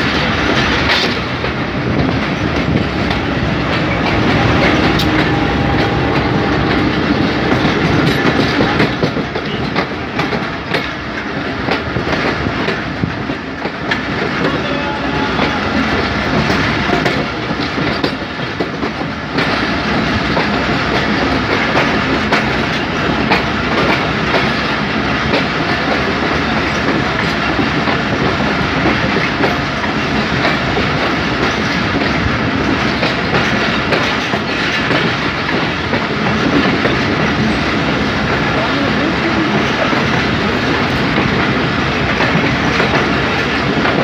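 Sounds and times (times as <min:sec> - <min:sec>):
train rumble and rush: 0:00.0 - 0:44.0
wheels clicking over rail joints: 0:00.0 - 0:44.0.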